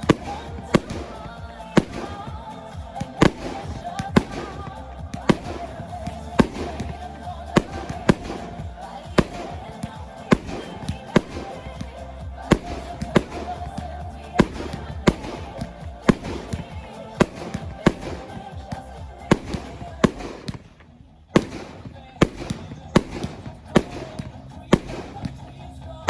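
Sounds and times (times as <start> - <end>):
firework shells bursting: 0.0 - 25.6
background music: 0.0 - 26.0.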